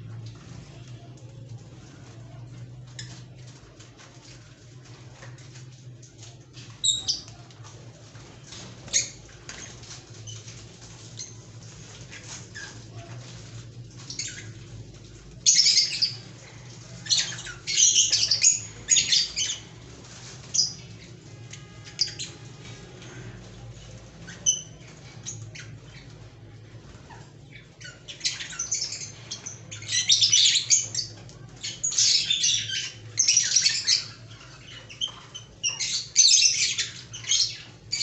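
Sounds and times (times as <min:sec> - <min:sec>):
lovebirds chirping and squawking: 0:00.0 - 0:38.0.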